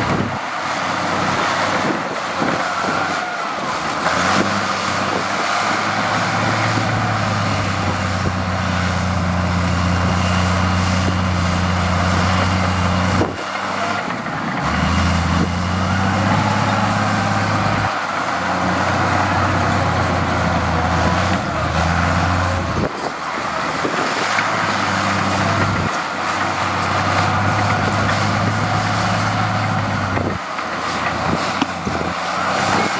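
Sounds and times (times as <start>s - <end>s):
diesel engine drone: 0.0s - 32.9s
loud mechanical noise: 0.0s - 32.9s.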